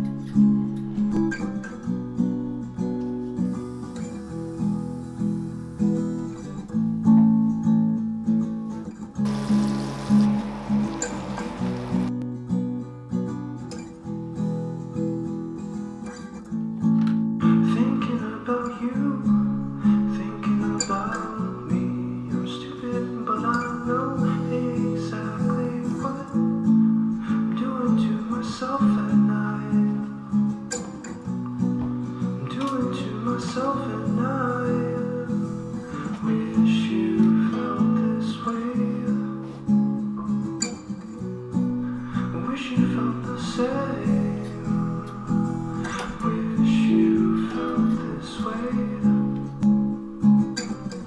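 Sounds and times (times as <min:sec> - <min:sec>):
plucked acoustic guitar music: 0:00.0 - 0:51.0.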